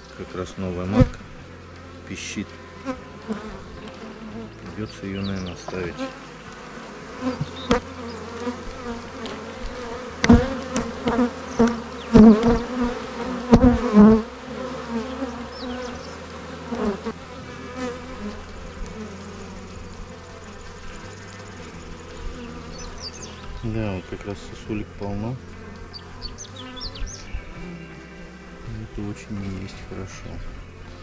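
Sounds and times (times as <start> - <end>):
honeybees humming: 0.0 - 31.0.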